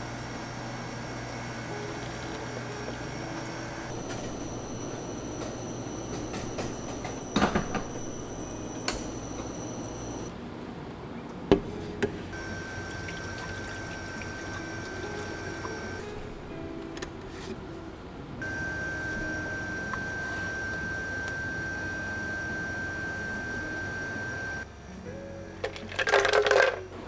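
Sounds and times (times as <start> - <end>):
equipment humming: 0.0 - 10.3, 11.5 - 27.0.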